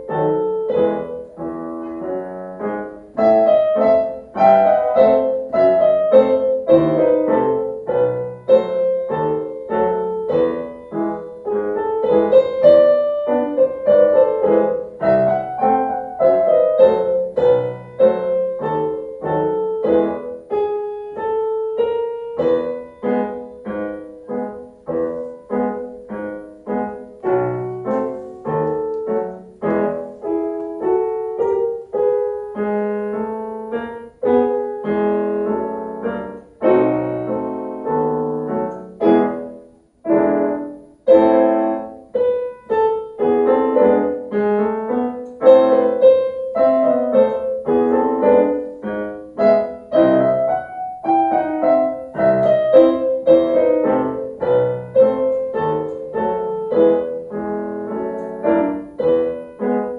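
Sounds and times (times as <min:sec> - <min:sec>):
solo piano piece: 0:00.0 - 0:59.9.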